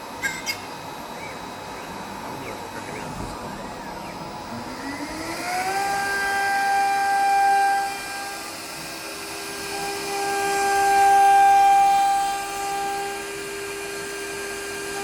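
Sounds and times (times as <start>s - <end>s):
machine spindle whine: 0.0s - 15.0s.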